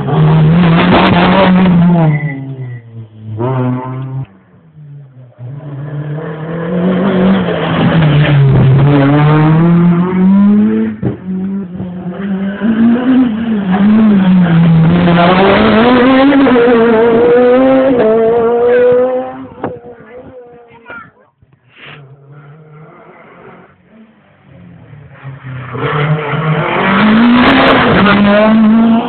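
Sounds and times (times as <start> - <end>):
rally car engine revving: 0.0 - 20.9, 21.8 - 29.0.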